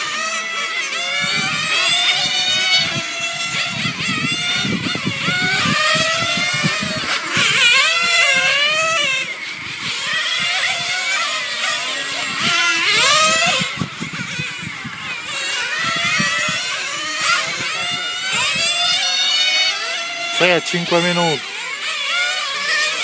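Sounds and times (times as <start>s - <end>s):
rc car engines racing: 0.0s - 23.0s.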